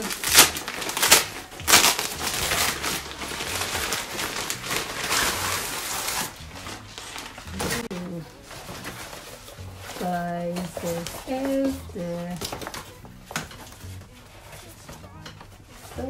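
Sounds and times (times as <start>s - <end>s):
nylon fabric bag rustling: 0.0s - 13.1s.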